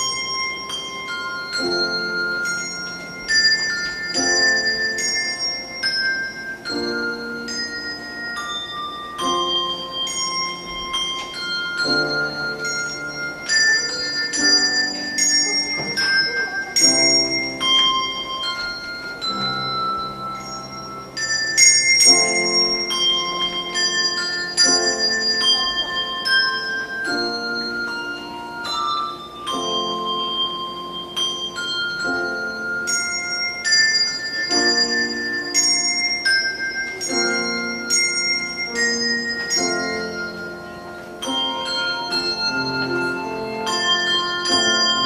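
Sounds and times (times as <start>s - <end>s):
grand piano chords: 0.0s - 45.0s
handbells ringing melody: 0.0s - 45.0s.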